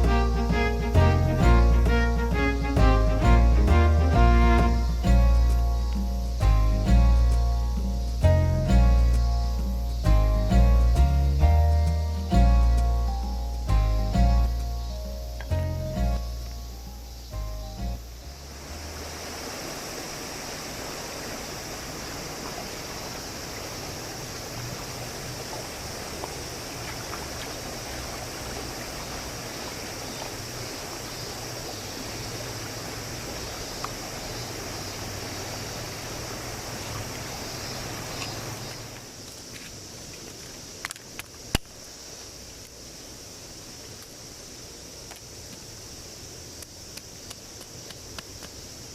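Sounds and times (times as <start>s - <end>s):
high hiss: 0.0s - 48.9s
stream water running: 0.0s - 48.9s.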